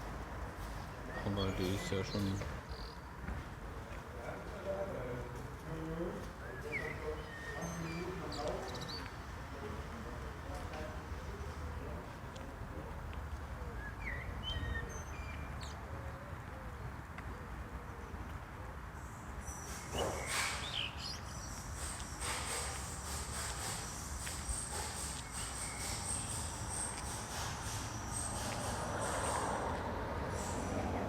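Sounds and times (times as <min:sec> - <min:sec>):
birds chirping: 0:00.7 - 0:05.1, 0:05.7 - 0:18.4, 0:19.0 - 0:31.0.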